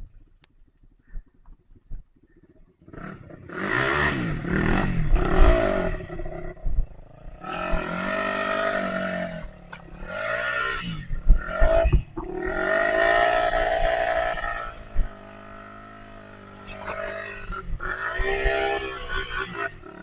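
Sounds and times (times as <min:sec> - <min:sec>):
motorcycle engine revving: 0:02.8 - 0:20.0.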